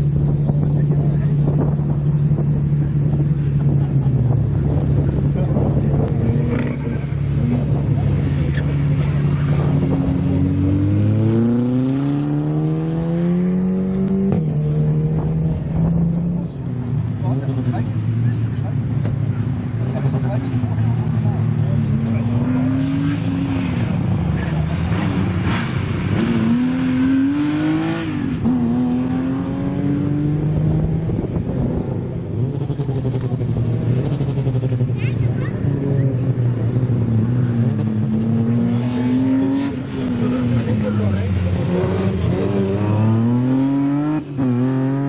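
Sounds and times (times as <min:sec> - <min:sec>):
car engine accelerating hard: 0:00.0 - 0:45.0.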